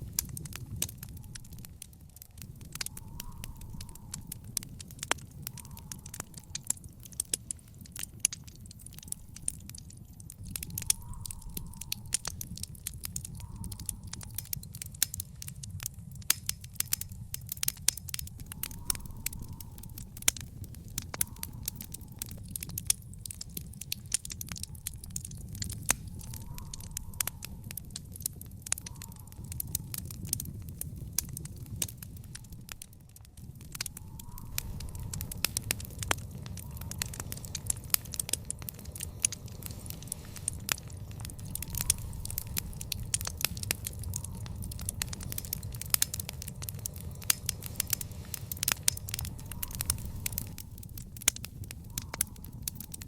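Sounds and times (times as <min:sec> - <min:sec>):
low rumble of burning: 0:00.0 - 0:53.0
sharp pops and snaps: 0:00.0 - 0:53.0
wood fire crackling: 0:00.0 - 0:53.0.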